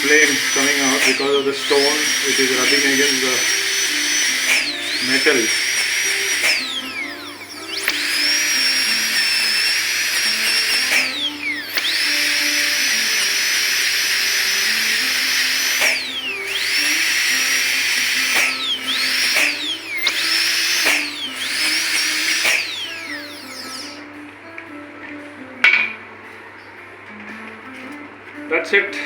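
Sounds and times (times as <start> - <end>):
dental drill whining: 0.0 - 24.1.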